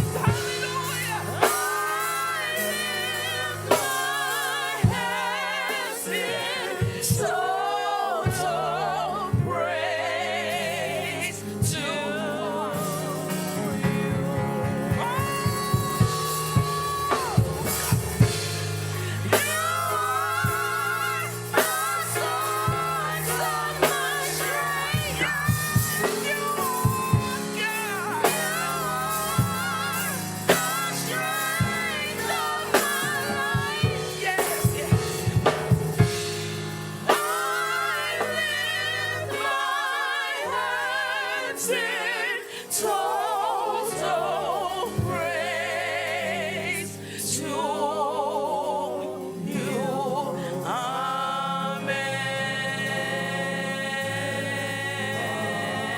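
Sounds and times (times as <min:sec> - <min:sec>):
band with drum kit: 0:00.0 - 0:47.4
voices singing with vibrato: 0:00.0 - 0:55.9.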